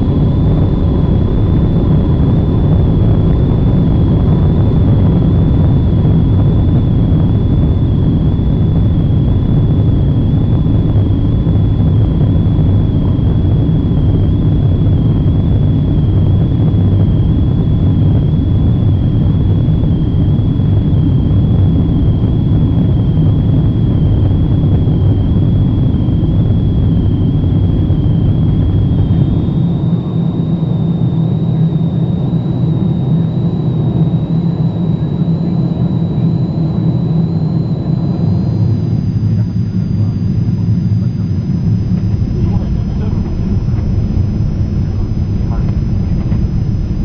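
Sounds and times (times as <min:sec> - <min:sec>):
high engine whine: 0:00.0 - 0:47.0
jet engine cabin rumble: 0:00.0 - 0:47.0.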